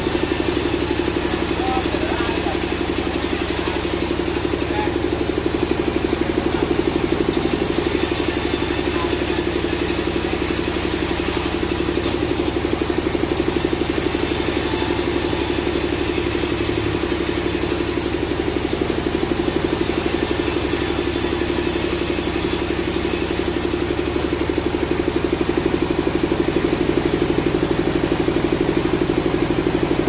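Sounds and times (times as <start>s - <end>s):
sawmill machinery hum: 0.0s - 30.0s.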